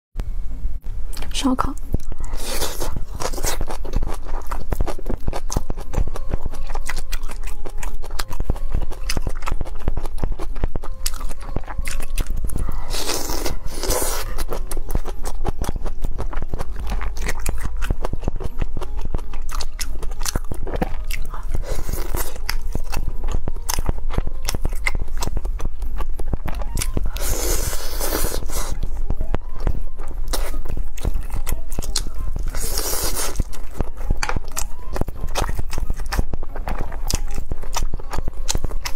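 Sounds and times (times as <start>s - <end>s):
chewing and crunching: 1.1s - 38.9s.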